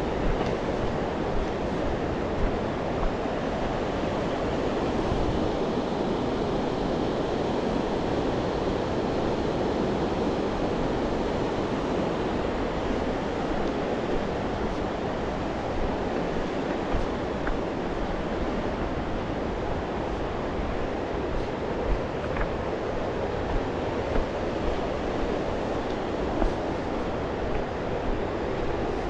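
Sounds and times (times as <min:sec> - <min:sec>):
fast-flowing river water rushing: 0:00.0 - 0:29.0.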